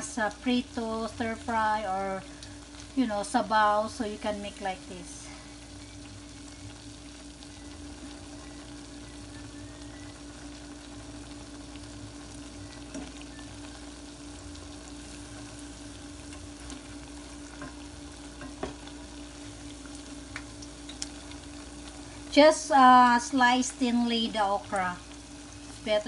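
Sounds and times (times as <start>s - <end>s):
low steady hum: 0.0s - 26.0s
omelets sizzling in oil: 0.0s - 26.0s.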